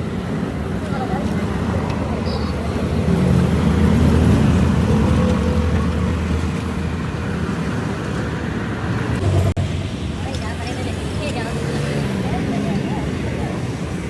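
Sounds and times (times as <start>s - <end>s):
vehicle passing engine rumble: 0.0s - 14.0s.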